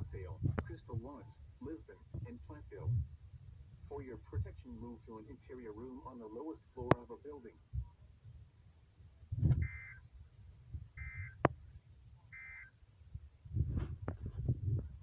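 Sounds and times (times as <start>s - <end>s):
low rumbling noise: 0.0s - 12.3s.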